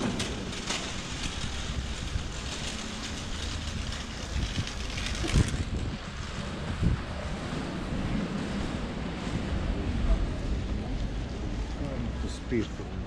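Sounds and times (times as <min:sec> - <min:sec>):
wind buffeting microphone: 0:00.0 - 0:12.2
city traffic rumble: 0:00.0 - 0:13.0.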